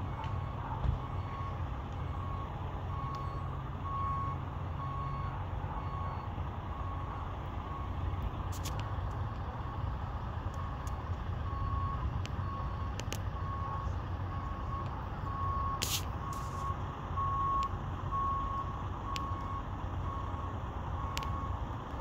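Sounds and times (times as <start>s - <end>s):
low engine rumble: 0.0s - 22.0s
vehicle backup alarm beeping: 0.0s - 22.0s.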